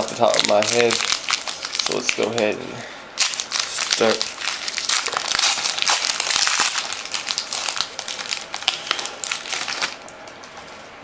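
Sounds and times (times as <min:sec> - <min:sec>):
wrapper crinkling as torn open: 0:00.0 - 0:02.6, 0:03.2 - 0:10.8.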